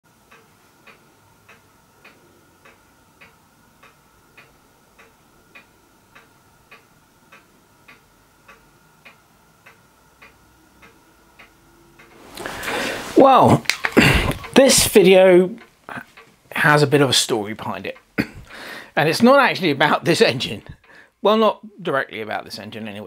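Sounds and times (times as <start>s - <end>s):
faint even ticking: 0.1s - 23.0s.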